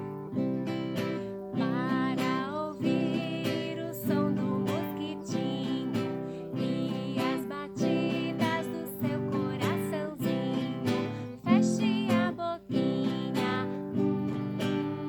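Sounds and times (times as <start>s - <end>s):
acoustic guitar strumming: 0.0s - 15.0s
person singing: 1.2s - 15.0s.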